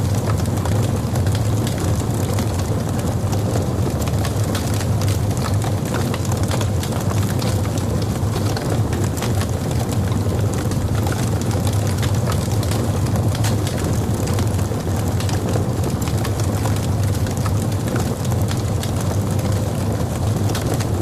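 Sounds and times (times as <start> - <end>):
burning wood crackling: 0.0 - 21.0
fire rumbling: 0.0 - 21.0.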